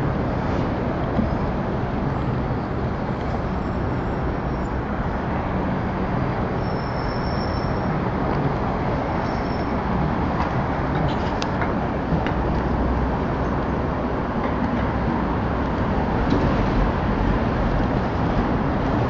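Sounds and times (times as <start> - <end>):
passing cars low rumble: 0.0 - 19.0.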